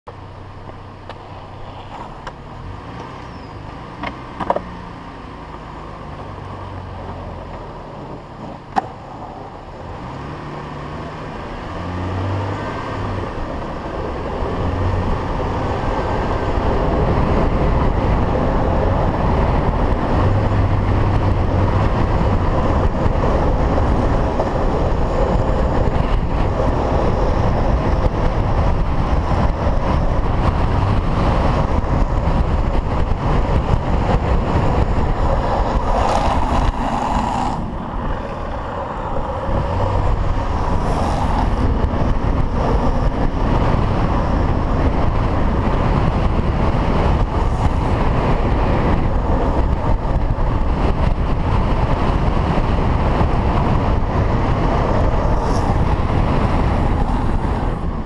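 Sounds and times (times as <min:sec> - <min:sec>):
longboard wheels rolling on asphalt: 0:00.1 - 0:58.0
wind rushing over microphone: 0:00.1 - 0:58.0.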